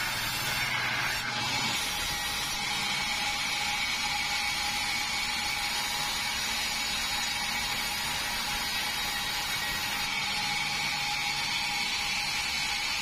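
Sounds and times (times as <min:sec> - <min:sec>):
band saw cutting wood: 0:00.0 - 0:13.0
saw blade whine: 0:00.0 - 0:13.0.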